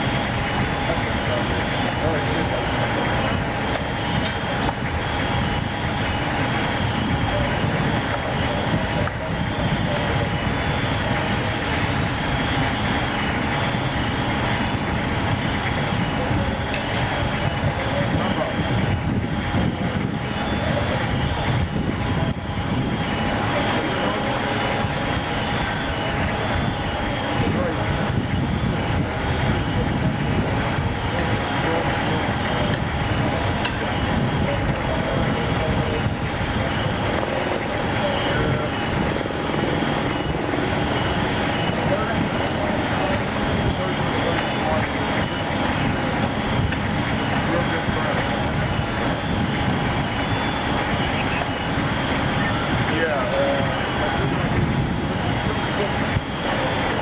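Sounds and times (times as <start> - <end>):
faint steady whine: 0.0 - 57.0
fire engines rumbling: 0.0 - 57.0
indistinct voices: 0.0 - 57.0.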